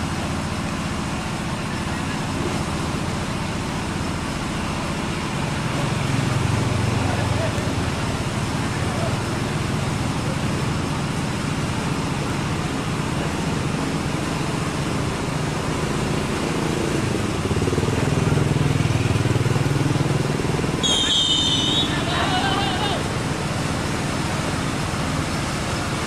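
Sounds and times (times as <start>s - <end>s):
motorcycle engine: 0.0s - 26.0s
road traffic noise: 0.0s - 26.0s.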